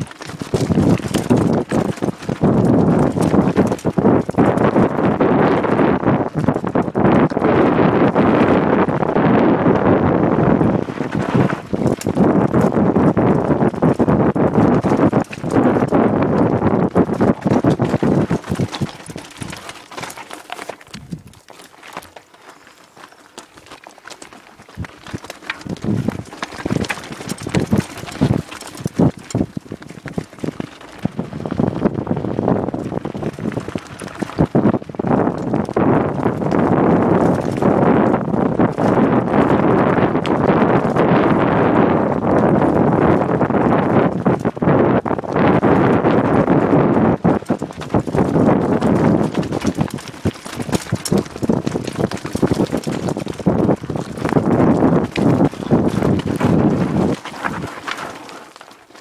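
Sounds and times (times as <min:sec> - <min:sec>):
wind on microphone: 0:00.0 - 0:21.4, 0:24.6 - 0:58.4
bike rattling over rocks: 0:00.0 - 0:59.0
tyres on dirt and stones: 0:00.0 - 0:59.0.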